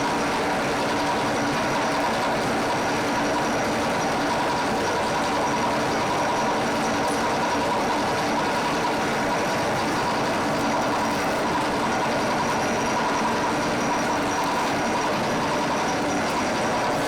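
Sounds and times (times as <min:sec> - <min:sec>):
factory machinery drone: 0:00.0 - 0:17.0.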